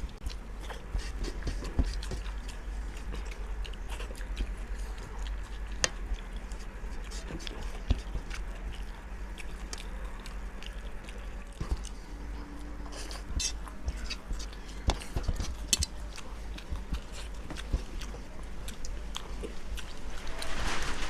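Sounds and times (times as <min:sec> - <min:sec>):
people chewing food: 0:00.0 - 0:21.0
steady low hum: 0:00.0 - 0:21.0.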